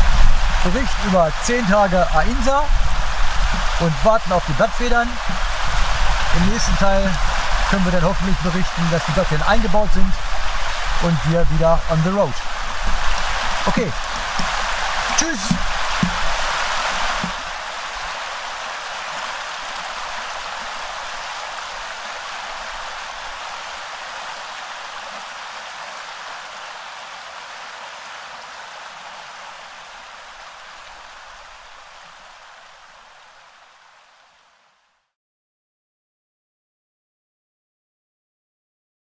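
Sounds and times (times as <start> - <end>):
river rippling over stones: 0.0 - 35.0.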